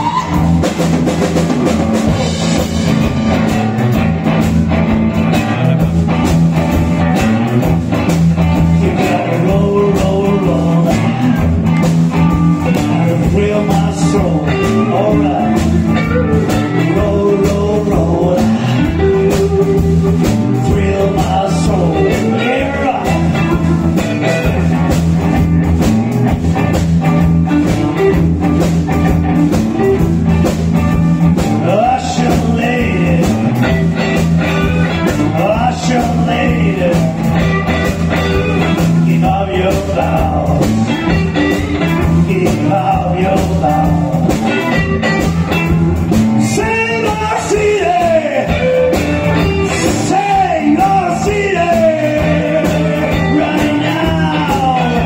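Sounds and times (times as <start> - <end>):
electric guitar: 0.0 - 55.0
rock band playing blues-rock: 0.0 - 55.0.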